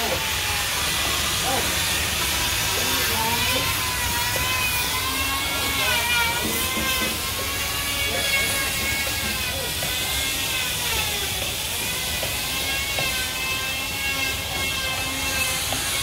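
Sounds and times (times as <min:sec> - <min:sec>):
power tool motor whining: 0:00.0 - 0:16.0.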